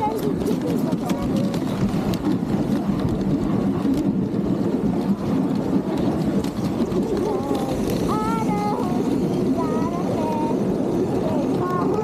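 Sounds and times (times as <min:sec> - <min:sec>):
sled runners scraping over snow: 0:00.0 - 0:12.0.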